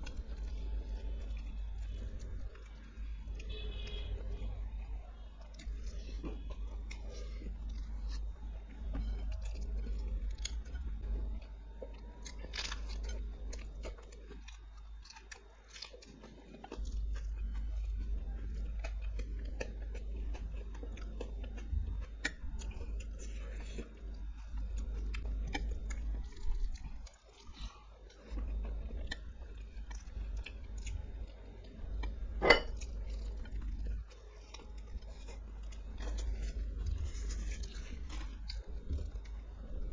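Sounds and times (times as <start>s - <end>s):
chewing and biting food: 0.0s - 39.9s
steady low hum: 0.0s - 39.9s.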